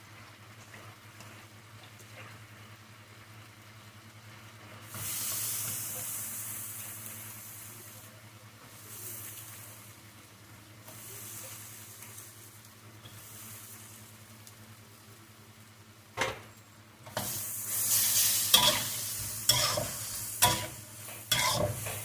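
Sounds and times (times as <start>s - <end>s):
stir-fry sizzling in a pan: 0.0s - 22.0s.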